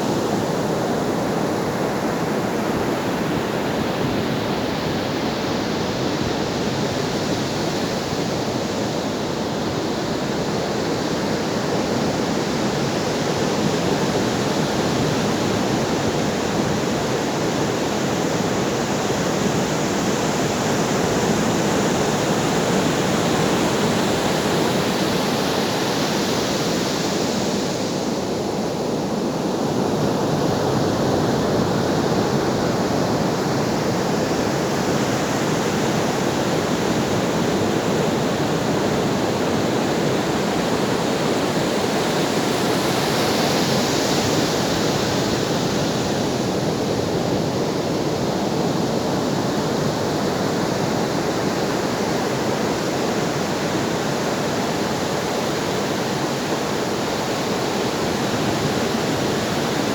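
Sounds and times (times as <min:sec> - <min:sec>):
ocean surf washing on shore: 0:00.0 - 0:59.9.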